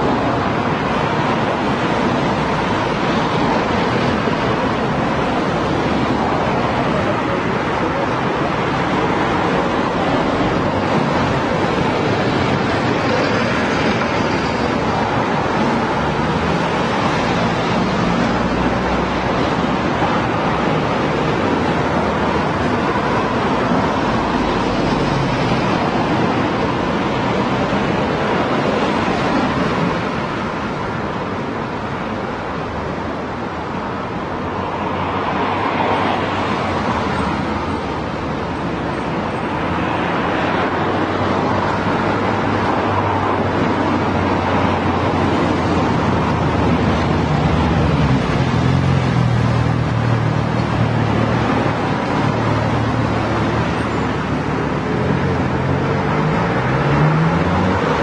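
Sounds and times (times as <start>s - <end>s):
passing cars and tyre noise: 0.0s - 58.0s.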